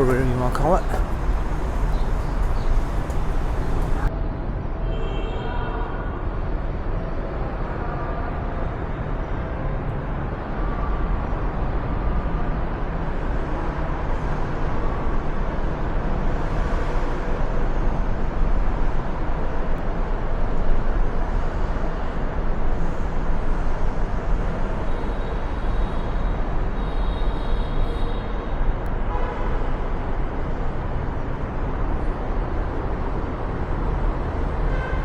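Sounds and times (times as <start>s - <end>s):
street traffic rumble: 0.0s - 35.0s.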